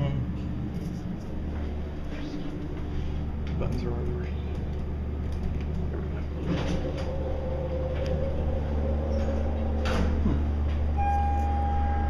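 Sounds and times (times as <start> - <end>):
constant low hum: 0.0 - 12.0
elevator machine whine: 0.6 - 12.0.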